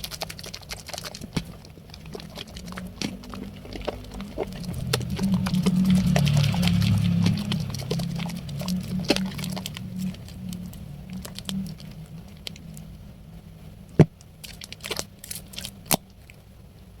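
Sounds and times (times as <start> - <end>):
soap lather squishing by hand: 0.0 - 13.0, 13.9 - 16.4.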